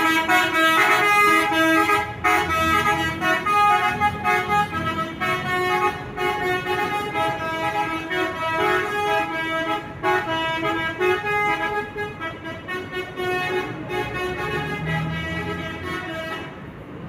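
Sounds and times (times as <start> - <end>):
bus multi-tone horn playing tune: 0.0 - 17.0.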